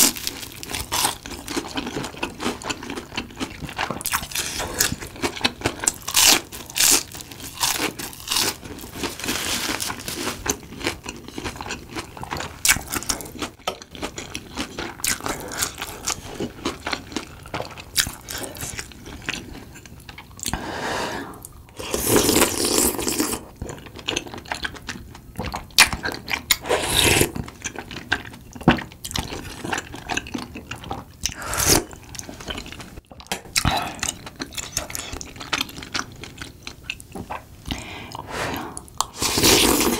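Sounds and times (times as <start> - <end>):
crunching and chewing food: 0.0 - 20.6, 21.4 - 39.9.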